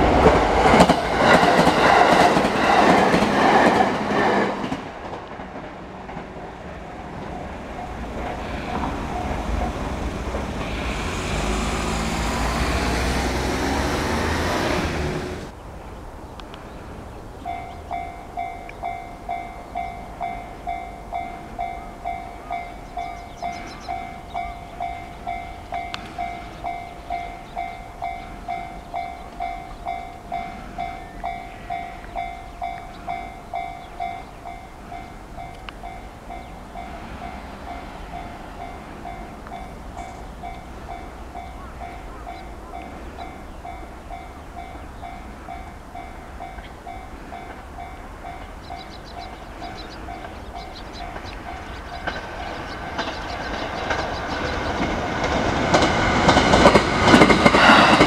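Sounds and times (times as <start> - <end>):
electric train passing: 0.0 - 58.0
level crossing warning bell: 7.2 - 14.7, 17.4 - 57.2.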